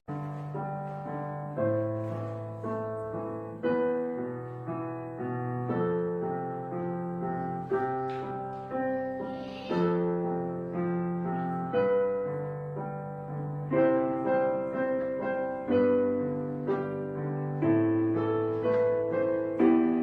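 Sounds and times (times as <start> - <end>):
slow piano music: 0.1 - 20.0.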